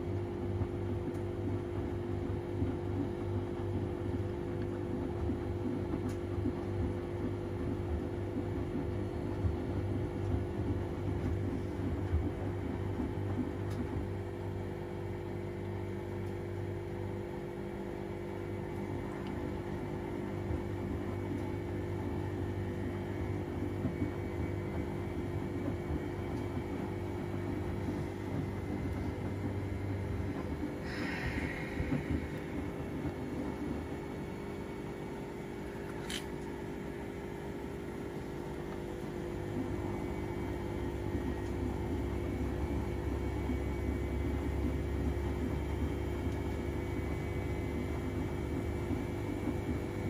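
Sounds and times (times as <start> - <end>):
washing machine humming: 0.0 - 50.0.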